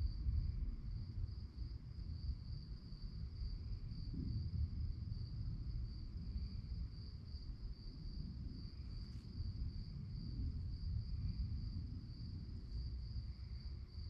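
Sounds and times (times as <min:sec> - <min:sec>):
crickets chirping: 0:00.0 - 0:14.0
low background rumble: 0:00.0 - 0:14.0.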